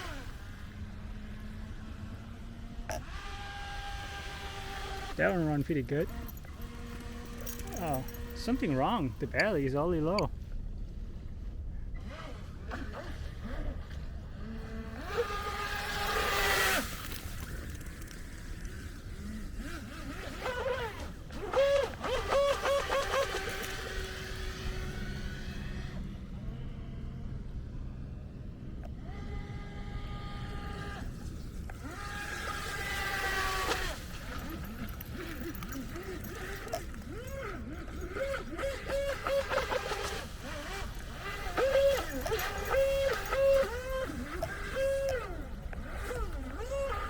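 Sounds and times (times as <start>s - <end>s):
electric motor whining: 0.0s - 10.3s, 14.4s - 27.8s, 28.8s - 47.0s
low rumble of wind and water: 0.0s - 47.0s.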